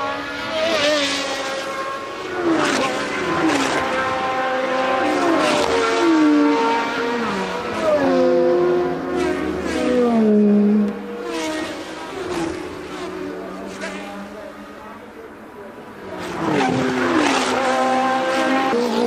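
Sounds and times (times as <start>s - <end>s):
racing cars passing by: 0.0s - 19.0s.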